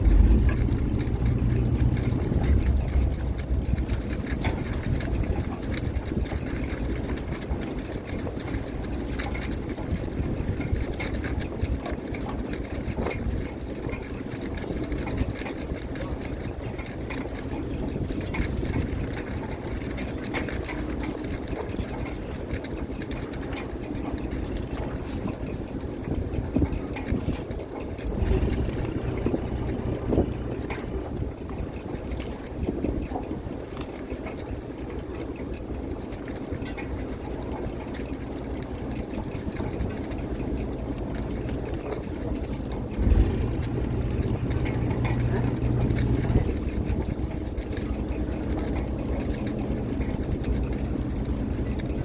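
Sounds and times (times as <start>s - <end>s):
boat engine running: 0.0s - 52.0s
clicks and clatter: 0.0s - 52.0s.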